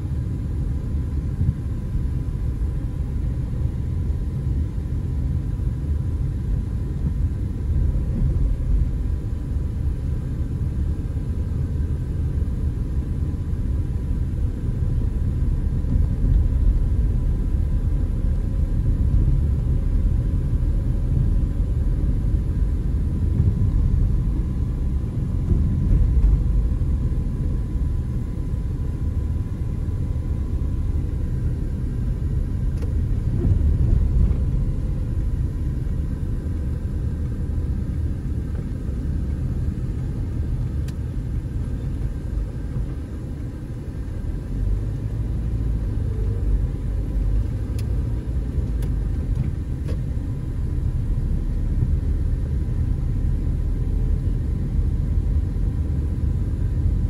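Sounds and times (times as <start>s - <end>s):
car engine rumble: 0.0s - 57.0s
road noise inside car: 0.0s - 57.0s.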